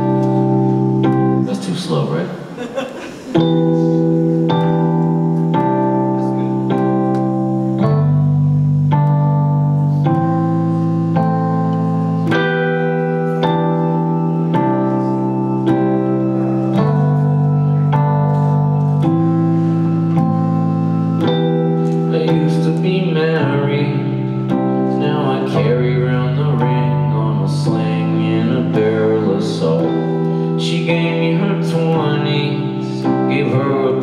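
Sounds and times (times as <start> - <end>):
electric keyboard chords: 0.0 - 34.0.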